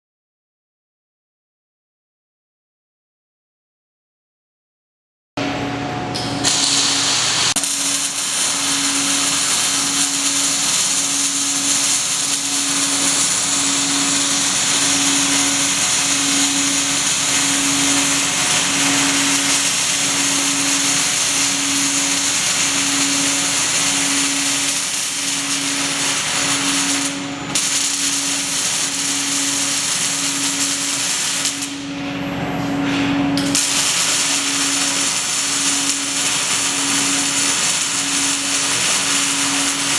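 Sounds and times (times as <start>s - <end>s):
welding arc hissing: 6.2s - 32.1s, 33.4s - 39.9s.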